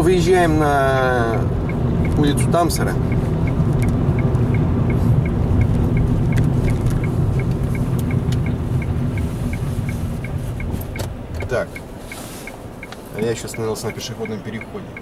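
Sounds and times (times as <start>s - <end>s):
engine and tyres rumbling: 0.0s - 15.0s
turn signal ticking: 0.0s - 15.0s.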